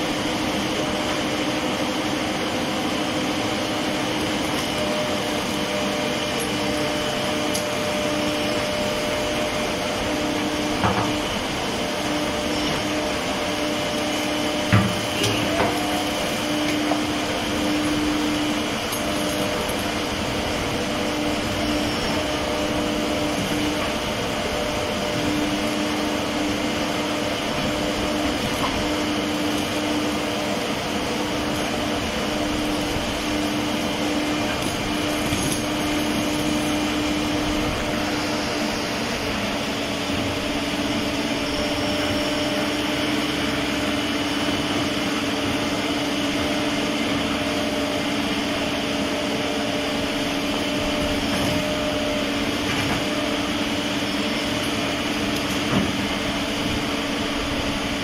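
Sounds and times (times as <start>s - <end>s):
excavator engine and hydraulics drone: 0.0s - 58.0s.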